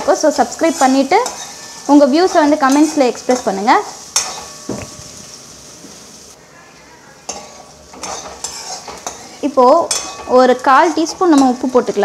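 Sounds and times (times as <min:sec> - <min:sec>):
metal spoon scraping pan: 0:00.0 - 0:05.2, 0:07.3 - 0:11.9
onions sizzling in hot oil: 0:00.0 - 0:12.0.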